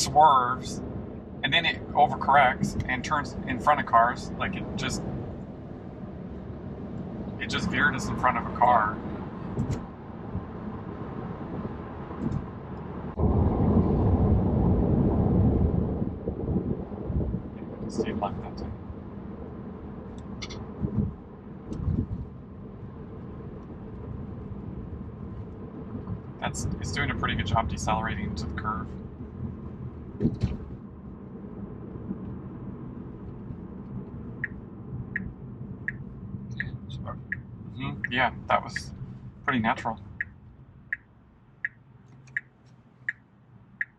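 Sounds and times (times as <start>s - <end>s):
road and tyre noise in car cabin: 0.0s - 43.9s.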